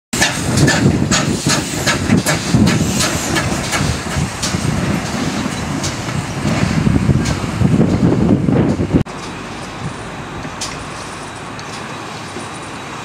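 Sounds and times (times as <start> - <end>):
train rumbling on track: 0.1 - 13.0
steam locomotive exhaust chuffs: 0.2 - 13.0.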